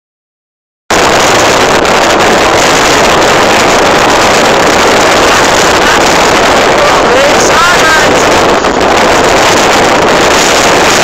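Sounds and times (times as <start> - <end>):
wind blasting on microphone: 0.9 - 11.0.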